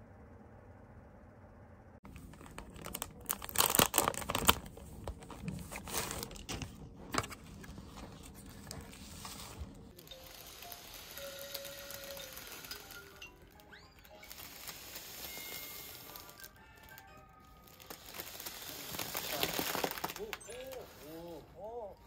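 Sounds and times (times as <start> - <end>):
paper and plastic rustling: 2.1 - 21.7.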